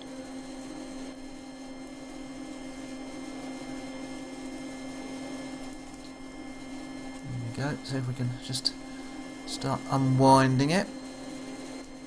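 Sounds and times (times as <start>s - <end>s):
forge air blower humming: 0.0s - 12.0s.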